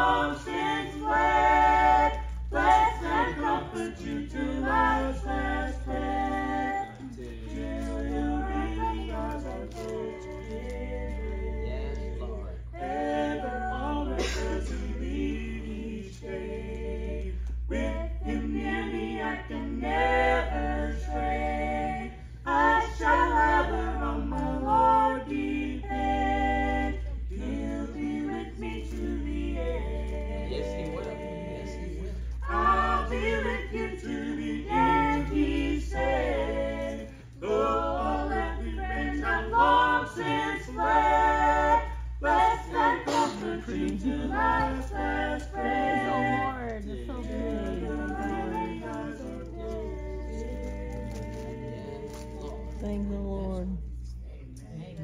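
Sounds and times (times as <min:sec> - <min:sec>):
people singing a cappella: 0:00.0 - 0:55.0
steady low hum: 0:00.0 - 0:55.0.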